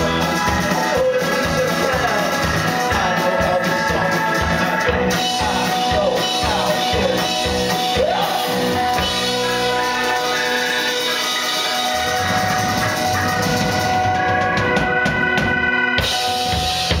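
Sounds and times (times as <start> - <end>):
person singing: 0.0 - 14.9
live rock band playing: 0.0 - 17.0.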